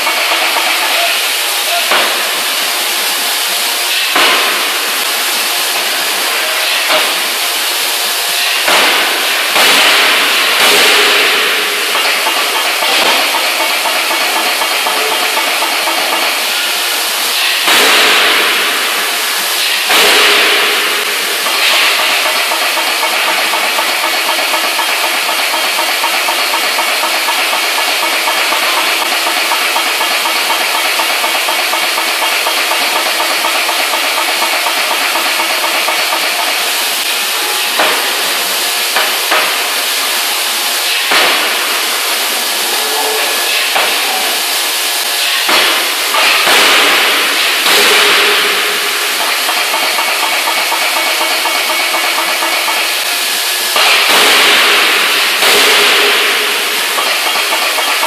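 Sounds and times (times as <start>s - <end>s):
hydraulic hiss: 0.0s - 58.0s.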